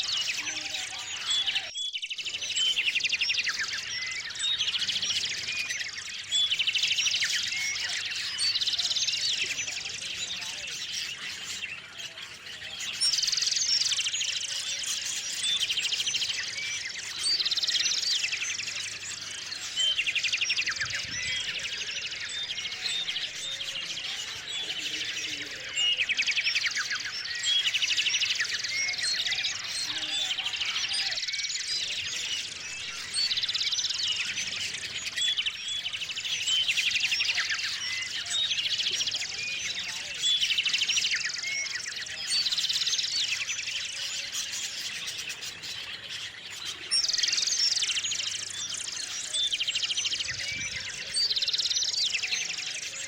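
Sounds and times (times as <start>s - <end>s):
songbirds chirping: 0.0s - 53.0s
trilled bird song: 0.0s - 53.0s.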